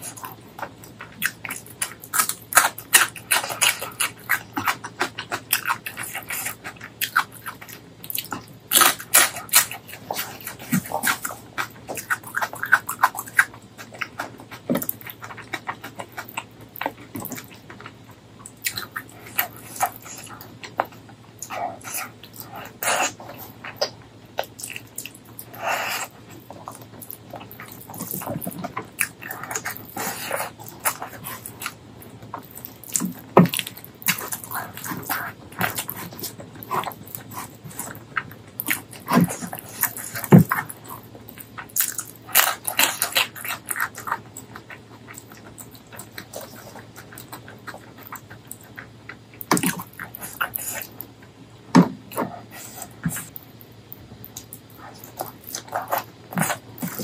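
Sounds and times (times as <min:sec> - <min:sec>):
wet chewing and lip smacking: 0:00.0 - 0:57.0.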